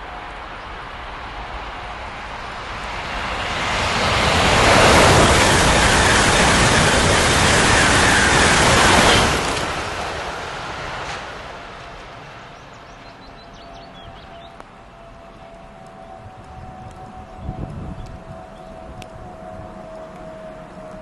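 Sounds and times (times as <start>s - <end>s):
train passing with rushing whoosh: 0.0s - 21.0s.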